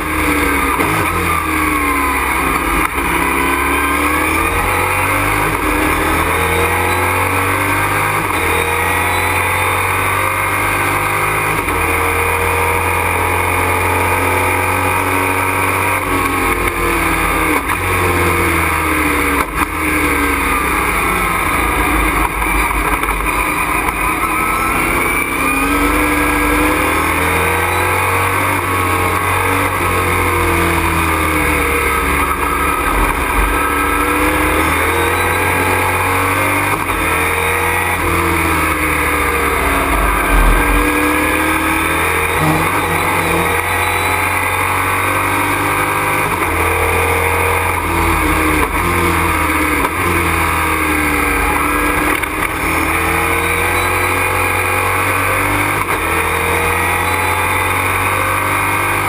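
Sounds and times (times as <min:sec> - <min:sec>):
racing truck engine revving: 0:00.0 - 0:59.0
road and wind noise: 0:00.0 - 0:59.0.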